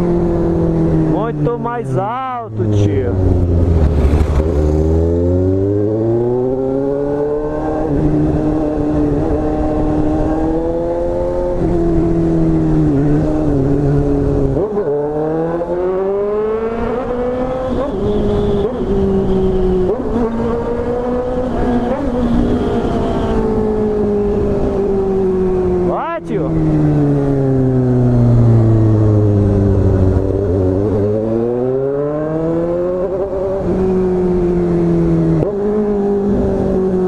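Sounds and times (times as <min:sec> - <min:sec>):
motorcycle accelerating: 0:00.0 - 0:37.0.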